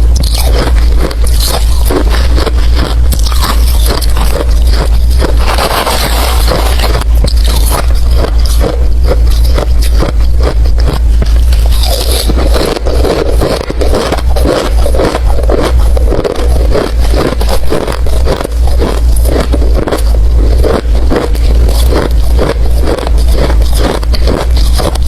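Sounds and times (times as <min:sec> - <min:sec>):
ice being chewed: 0:00.0 - 0:25.0
low rumble: 0:00.0 - 0:25.0.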